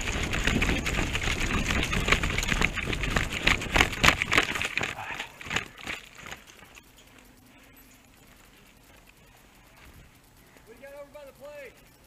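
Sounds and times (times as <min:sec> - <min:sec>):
running footsteps on dry dirt: 0:00.0 - 0:12.0.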